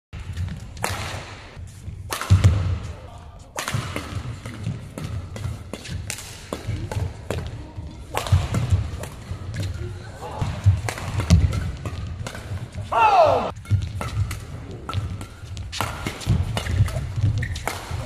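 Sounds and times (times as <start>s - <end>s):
racket striking shuttlecock: 0.2s - 3.0s, 3.6s - 7.5s, 8.1s - 9.8s, 10.4s - 18.0s.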